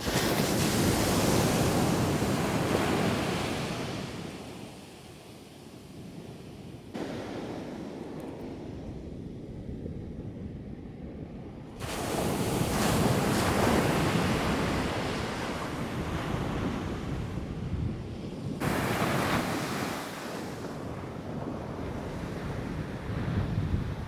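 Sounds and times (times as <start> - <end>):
ocean surf breaking: 0.0 - 9.4, 11.8 - 17.2, 18.6 - 23.2
wind buffeting microphone: 0.0 - 24.0.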